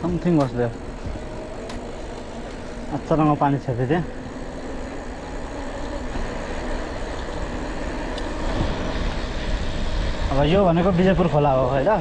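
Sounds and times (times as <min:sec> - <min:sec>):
wind rushing on microphone: 0:00.0 - 0:12.0.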